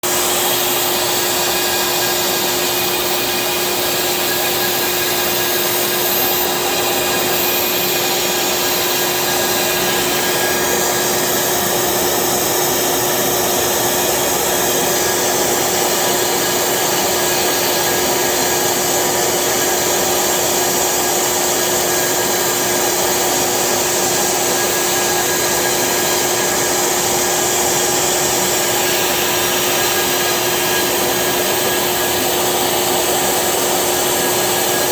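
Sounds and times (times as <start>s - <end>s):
cnc spindle hum: 0.0s - 34.9s.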